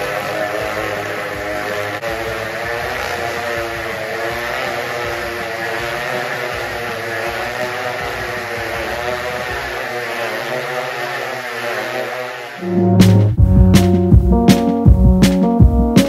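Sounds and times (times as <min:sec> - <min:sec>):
motorcycle engines revving: 0:00.0 - 0:14.8.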